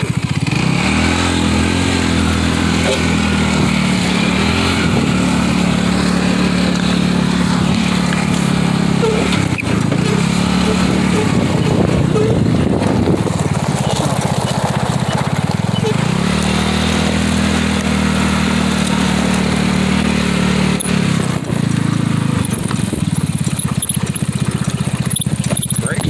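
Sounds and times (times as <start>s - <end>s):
buggy engine revving: 0.0s - 26.0s.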